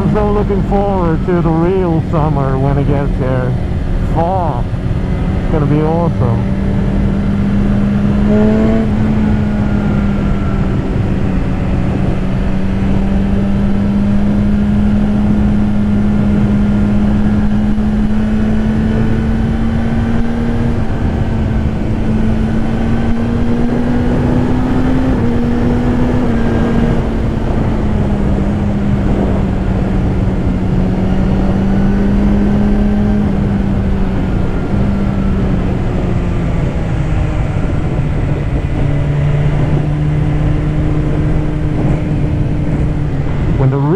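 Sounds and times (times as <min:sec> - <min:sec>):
motorcycle engine cruising: 0:00.0 - 0:43.9
wind buffeting microphone: 0:00.0 - 0:43.9.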